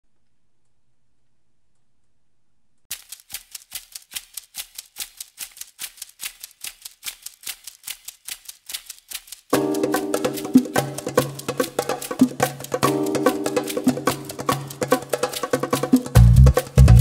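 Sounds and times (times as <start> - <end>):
rhythmic percussion shaker: 2.9 - 17.0.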